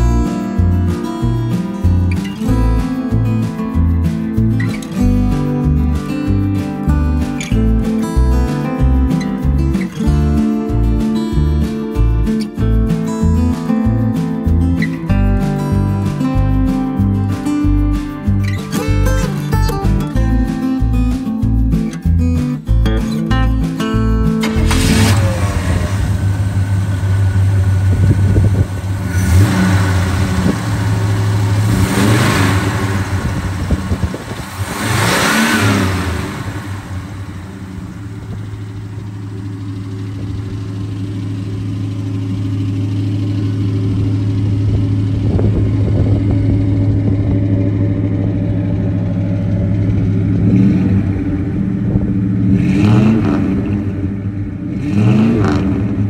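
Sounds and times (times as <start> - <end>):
pickup engine idling and revving: 0.0 - 56.0.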